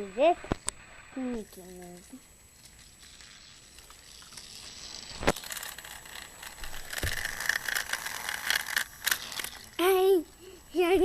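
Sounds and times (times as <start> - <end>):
toy train motor whine: 0.0 - 11.0.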